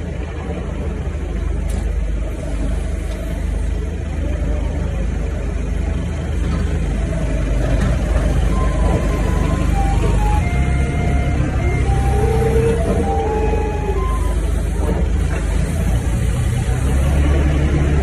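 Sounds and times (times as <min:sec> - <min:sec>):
forklift engine rumble: 0:00.0 - 0:18.0.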